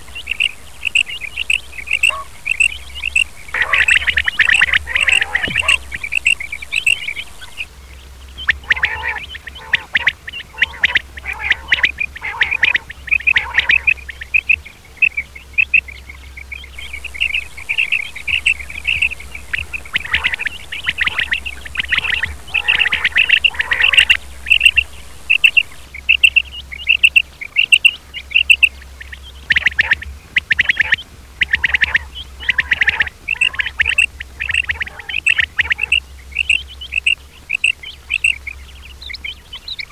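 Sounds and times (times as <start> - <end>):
quail calling: 0.0 - 7.7, 8.4 - 15.8, 16.7 - 28.7, 29.4 - 38.4.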